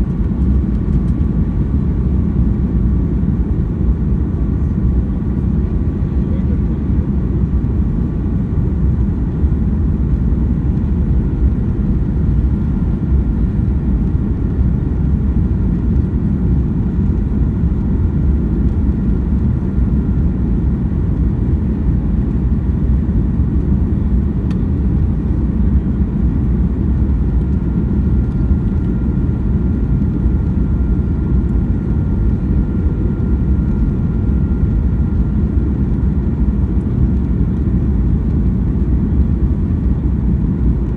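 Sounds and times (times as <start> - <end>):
aircraft cabin rumble: 0.0 - 40.9
faint steady whine: 5.6 - 40.9.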